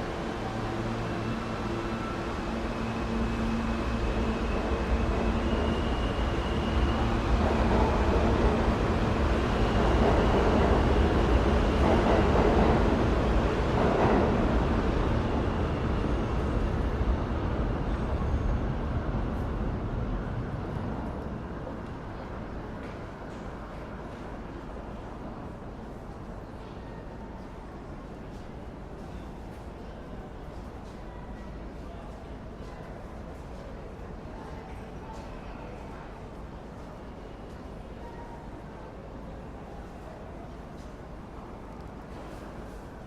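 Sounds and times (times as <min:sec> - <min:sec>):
subway train running: 0:00.0 - 0:43.0.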